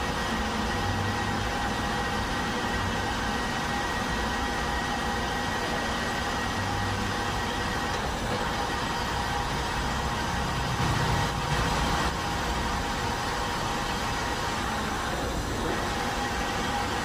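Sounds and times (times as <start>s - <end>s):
metal lathe humming: 0.0s - 17.0s.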